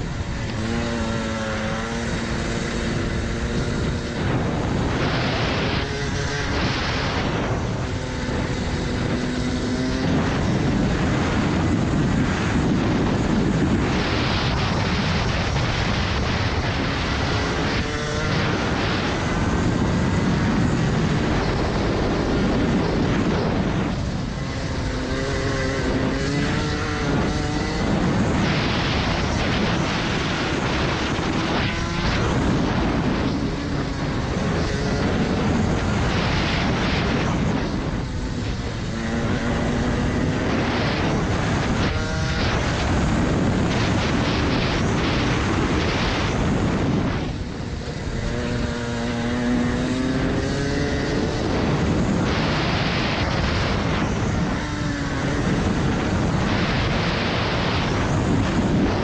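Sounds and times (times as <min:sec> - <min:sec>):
kart engine accelerating and slowing: 0:00.0 - 0:59.0.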